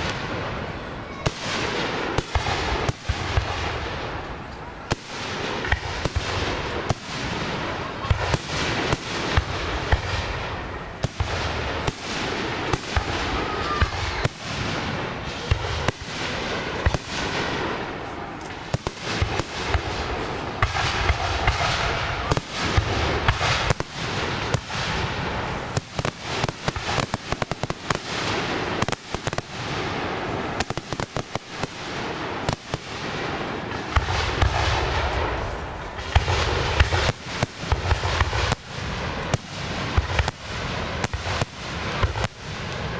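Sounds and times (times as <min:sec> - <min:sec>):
fireworks bursting with sharp bangs: 0:00.0 - 0:42.9.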